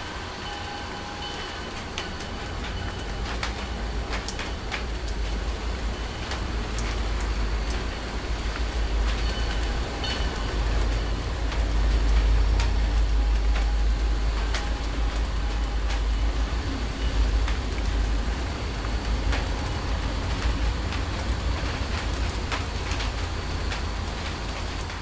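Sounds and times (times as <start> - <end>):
raindrops ticking: 0.1 - 25.0.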